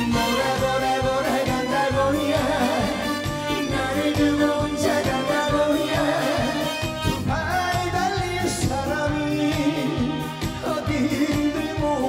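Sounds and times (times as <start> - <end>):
band with steady drum beat: 0.0 - 12.0
man singing: 0.0 - 12.0.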